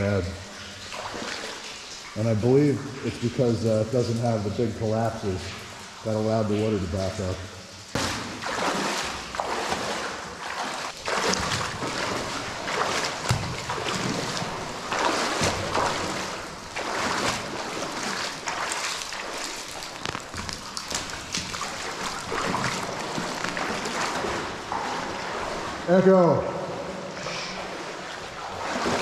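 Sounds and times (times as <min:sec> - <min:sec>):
legs sloshing through water: 0:00.0 - 0:25.9, 0:26.5 - 0:29.0.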